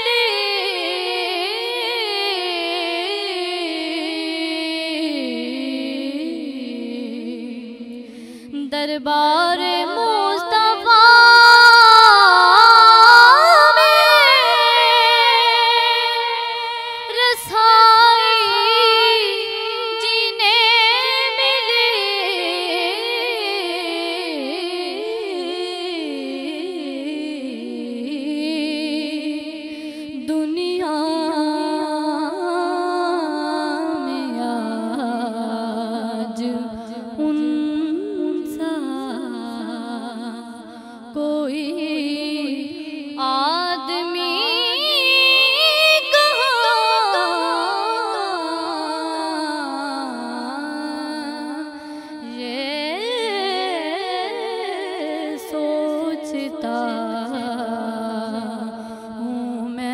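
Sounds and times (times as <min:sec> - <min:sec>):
woman singing unaccompanied: 0:00.0 - 0:59.9.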